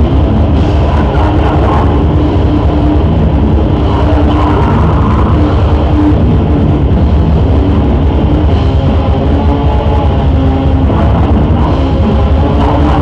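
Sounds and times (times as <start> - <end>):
heavy metal band playing: 0.0 - 13.0.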